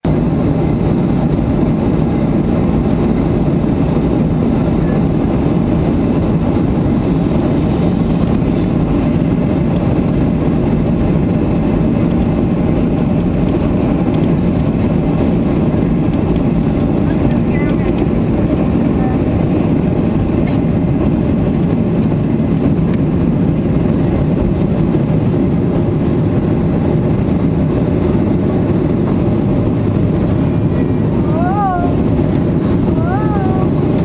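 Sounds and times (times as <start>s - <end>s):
jet engines and airflow in cabin: 0.0s - 34.0s.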